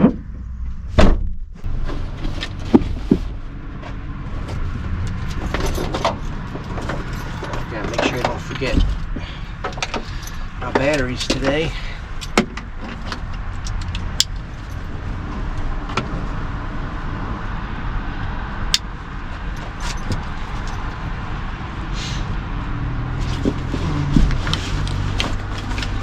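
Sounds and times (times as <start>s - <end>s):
gear clicks and knocks: 0.0s - 16.2s, 18.7s - 21.1s, 23.2s - 26.0s
steady low rumble: 0.0s - 26.0s.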